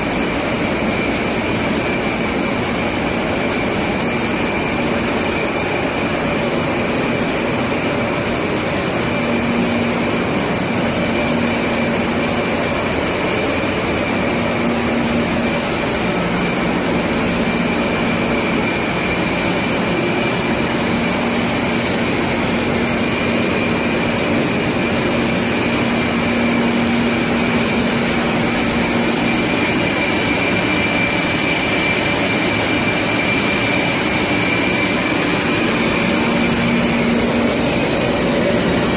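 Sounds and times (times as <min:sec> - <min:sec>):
lathe machine noise: 0:00.0 - 0:38.9.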